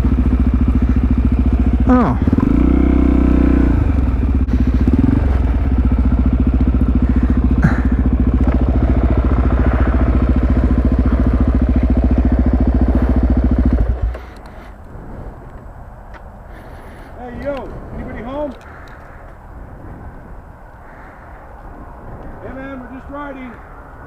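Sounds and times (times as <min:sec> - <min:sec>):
motorcycle engine idling: 0:00.0 - 0:19.6.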